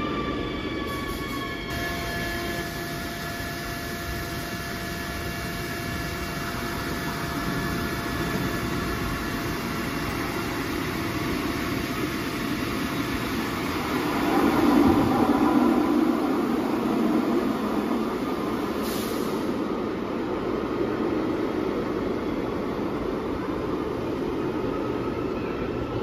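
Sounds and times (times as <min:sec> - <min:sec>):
electric train rumble: 0:00.0 - 0:26.0
train equipment hum: 0:00.0 - 0:26.0.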